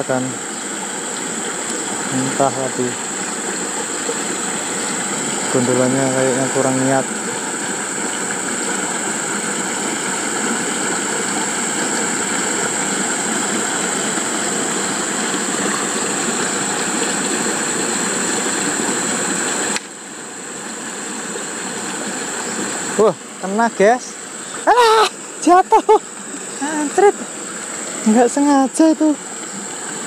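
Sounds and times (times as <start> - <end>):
water pouring from pipe into pond: 0.0 - 30.0.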